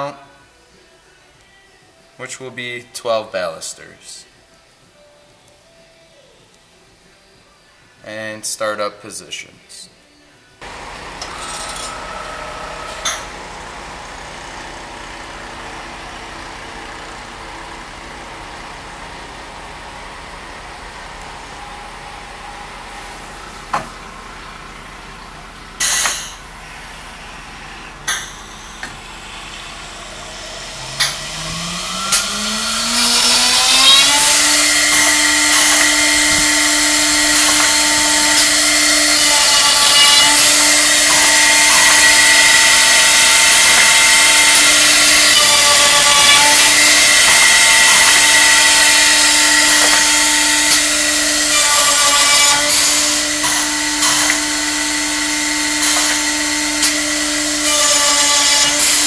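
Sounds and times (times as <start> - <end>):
drill motor whine and hiss: 10.6 - 59.0.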